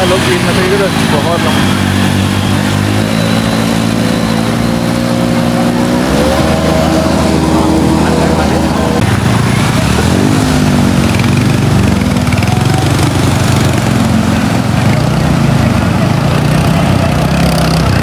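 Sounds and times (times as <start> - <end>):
fast-flowing water: 0.0 - 18.0
small motorbike engine revving: 0.0 - 18.0.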